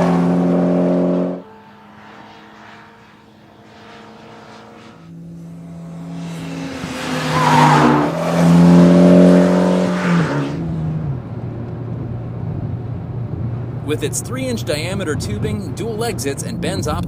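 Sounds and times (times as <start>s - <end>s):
turbocharged car engine exhaust: 0.0s - 17.0s.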